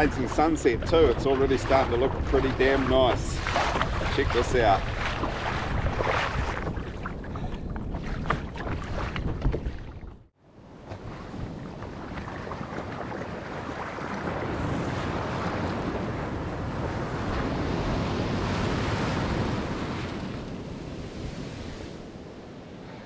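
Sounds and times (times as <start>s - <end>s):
ocean surf washing up beach: 0.0s - 6.6s, 10.6s - 23.0s
wave breaking: 0.0s - 10.0s, 10.8s - 22.1s.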